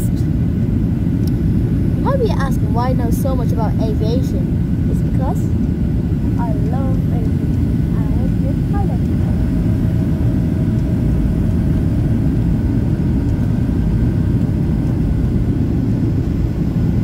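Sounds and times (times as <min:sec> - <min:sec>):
faint steady whine: 0:00.0 - 0:17.0
jet engine and airflow roar: 0:00.0 - 0:17.0.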